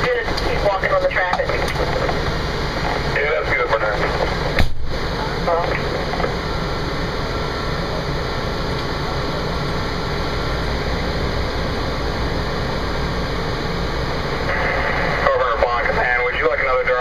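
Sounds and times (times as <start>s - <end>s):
diesel engine rumble: 0.0s - 17.0s
road noise: 0.0s - 17.0s.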